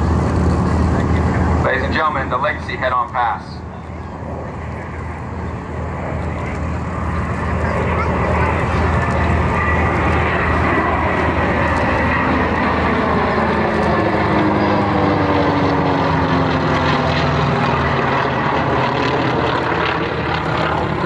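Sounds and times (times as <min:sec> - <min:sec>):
aircraft flying past roaring: 0:00.0 - 0:21.0.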